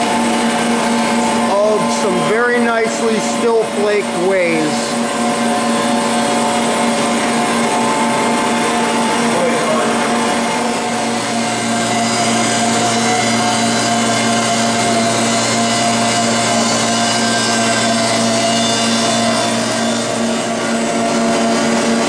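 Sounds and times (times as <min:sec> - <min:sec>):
deeper hum: 0:00.0 - 0:22.0
machine hum and whir: 0:00.0 - 0:22.0.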